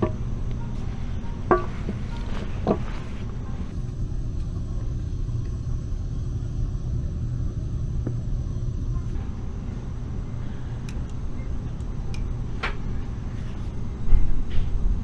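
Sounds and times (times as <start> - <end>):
train cabin rumble and hum: 0.0 - 15.0.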